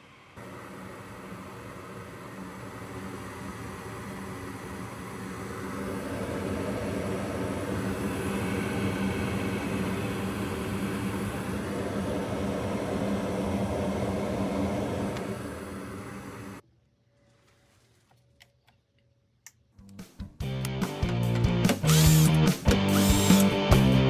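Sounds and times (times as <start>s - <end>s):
furnace fan droning: 0.0s - 16.8s, 20.4s - 24.0s.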